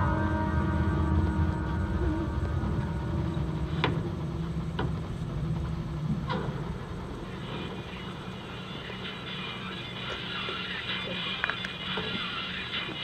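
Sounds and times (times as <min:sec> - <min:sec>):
low rumbling drone: 0:00.0 - 0:12.8
steady low hum: 0:00.0 - 0:13.0.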